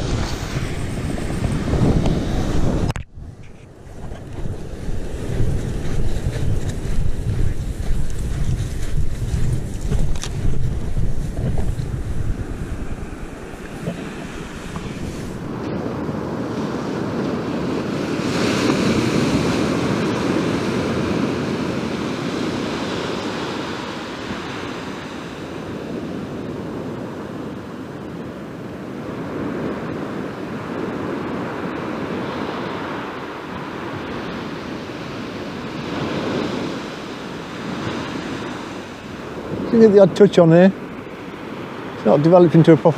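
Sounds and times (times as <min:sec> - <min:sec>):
sea surf breaking on beach: 0:00.0 - 0:03.0, 0:03.8 - 0:42.9.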